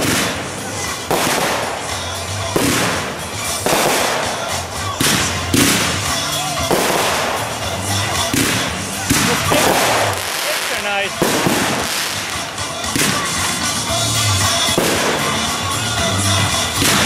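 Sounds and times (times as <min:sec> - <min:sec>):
aerial fireworks bursting: 0:00.0 - 0:17.0.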